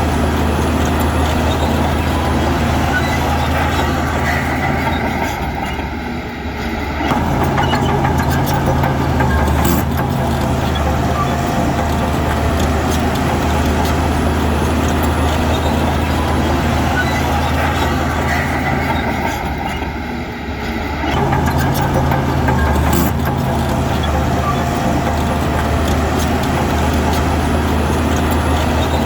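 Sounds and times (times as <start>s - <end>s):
clanks and rattles: 0.0s - 29.0s
heavy diesel engine running: 0.0s - 29.0s.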